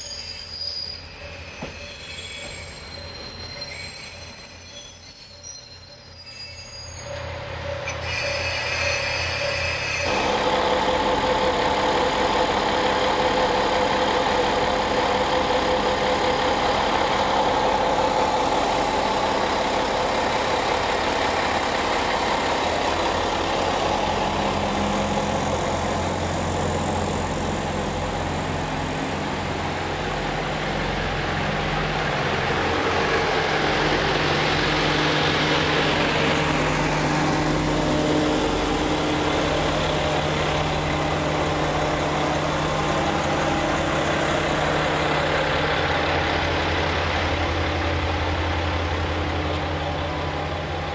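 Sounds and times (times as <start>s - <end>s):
diesel train engines humming: 0.0s - 50.9s
train cars rolling past: 0.0s - 50.9s.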